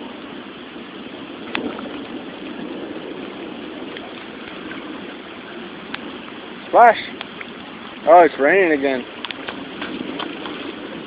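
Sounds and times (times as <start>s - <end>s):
rain and running water: 0.0s - 11.0s.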